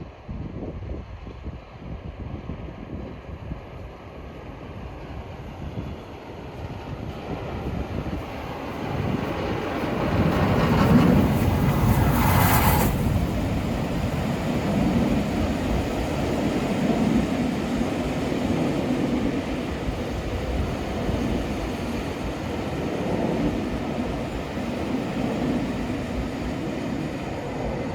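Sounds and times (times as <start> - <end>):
train rumbling past: 3.9 - 27.9.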